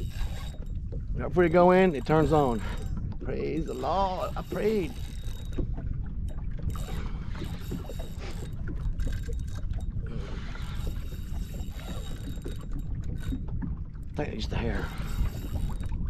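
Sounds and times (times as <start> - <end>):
low rumble of wind: 0.0 - 16.0
water lapping against hull: 0.0 - 16.0.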